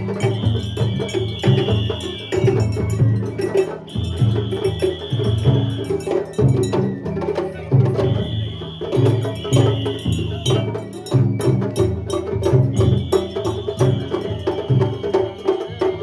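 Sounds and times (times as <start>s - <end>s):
high bamboo flute: 0.0s - 16.0s
taiko drums beating: 0.0s - 16.0s.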